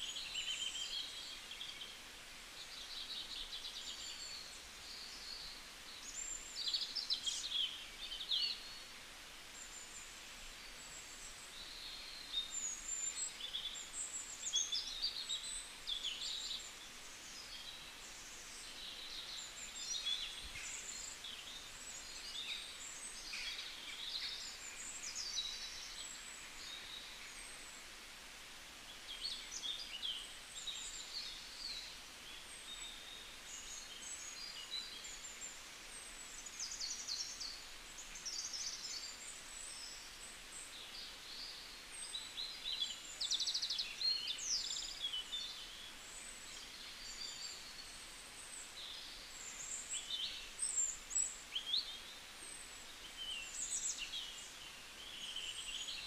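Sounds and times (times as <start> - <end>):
faint steady background hiss: 0.0 - 56.0
small birds chirping and twittering: 0.0 - 56.0.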